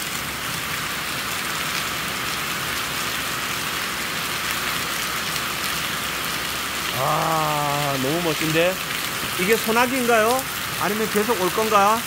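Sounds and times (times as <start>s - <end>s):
heavy rain on rocks and gravel: 0.0s - 12.0s.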